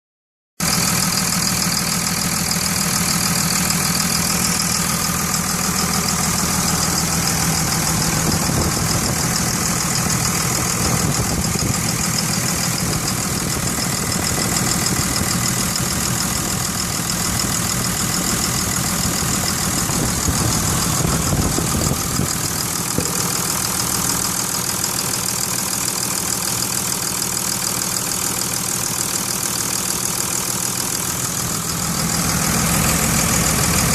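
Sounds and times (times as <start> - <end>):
diesel engine idling with knock: 0.6 - 33.9.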